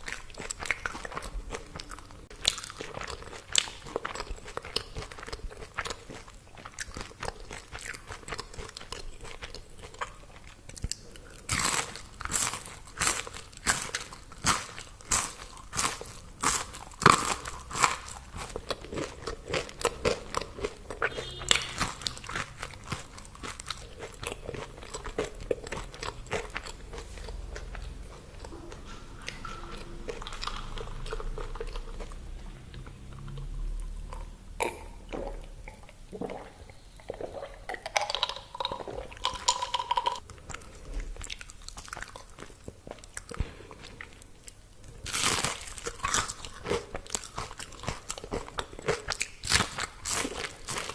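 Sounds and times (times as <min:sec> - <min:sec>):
chewing crispy fried food: 0:00.0 - 0:36.4, 0:37.1 - 0:50.9.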